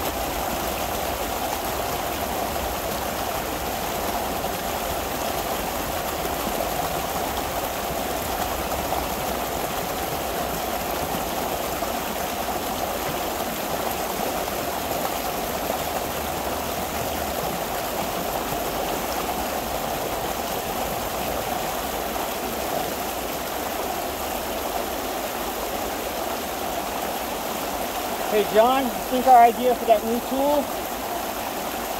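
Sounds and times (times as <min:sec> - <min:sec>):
water gushing through dam breach: 0:00.0 - 0:31.9.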